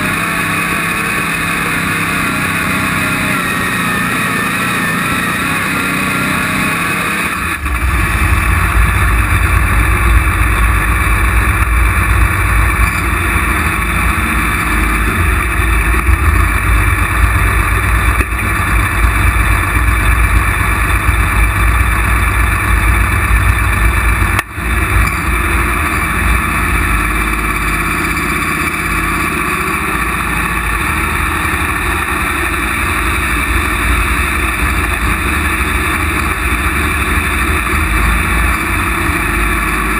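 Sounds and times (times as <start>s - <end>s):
tractor pulling engine rumble: 0.0s - 39.9s.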